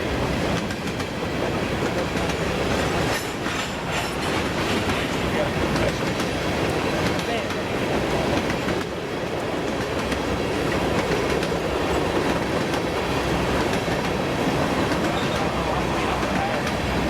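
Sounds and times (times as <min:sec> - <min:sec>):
train wheels rumbling on rail: 0:00.0 - 0:17.0
wheels clicking over rail joints: 0:00.3 - 0:17.0.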